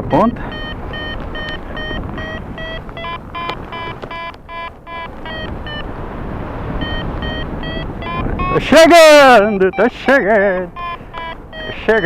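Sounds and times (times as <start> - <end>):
variometer short beeps: 0.0 - 5.9, 6.8 - 12.0
wind noise on microphone: 0.0 - 12.0.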